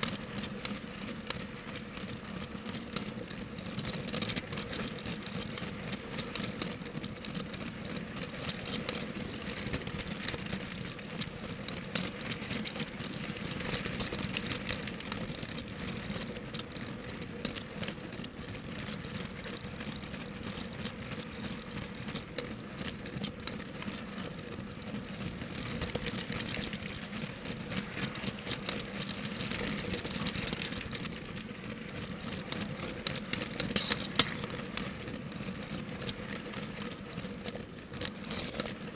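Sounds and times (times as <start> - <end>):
toy train wheels clicking on track: 0.0 - 38.9.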